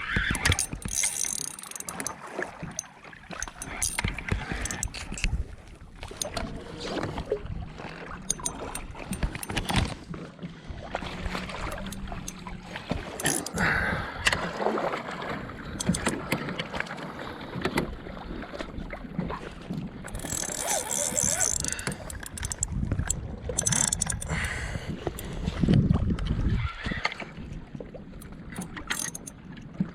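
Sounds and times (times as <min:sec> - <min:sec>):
knocks and clicks from boat gear: 0:00.0 - 0:26.3, 0:27.4 - 0:29.9
water sloshing around kayak hull: 0:00.0 - 0:29.9.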